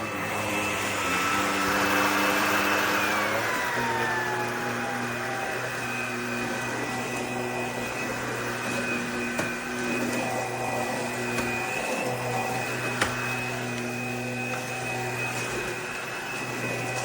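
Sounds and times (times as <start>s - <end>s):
stick vacuum running: 0.0s - 17.0s.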